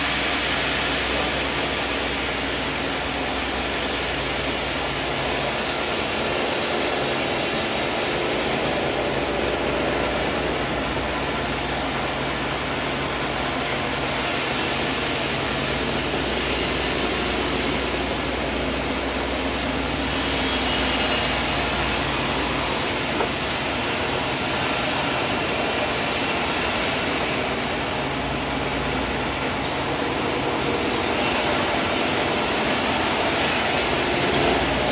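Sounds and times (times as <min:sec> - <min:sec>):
sawmill saw running: 0:00.0 - 0:34.9.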